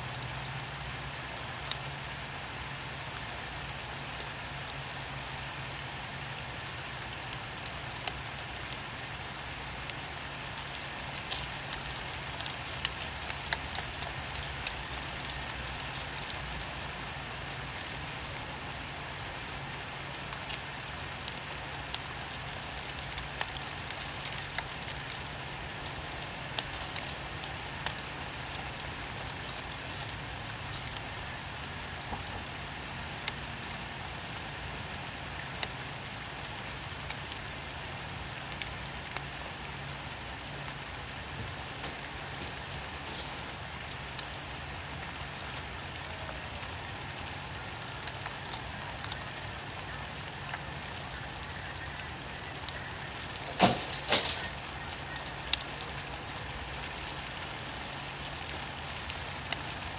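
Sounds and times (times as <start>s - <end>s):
rain hissing: 0.0s - 59.9s
raindrop ticks: 0.0s - 59.9s.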